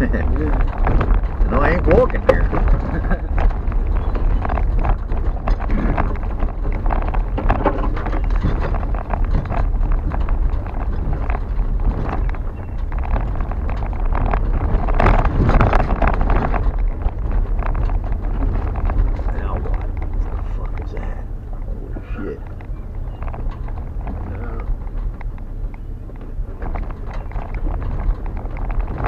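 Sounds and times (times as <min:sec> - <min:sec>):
knocks and rattles from bumps: 0:00.0 - 0:29.0
truck engine and tyres rumbling: 0:00.0 - 0:29.0.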